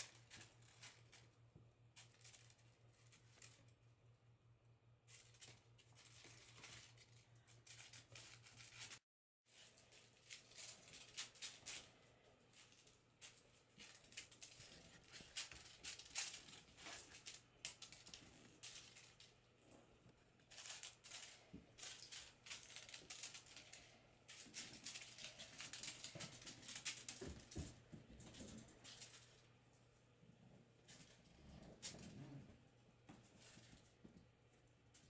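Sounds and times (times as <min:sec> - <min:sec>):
crinkly tinsel ball: 0:00.0 - 0:04.1, 0:04.9 - 0:29.6.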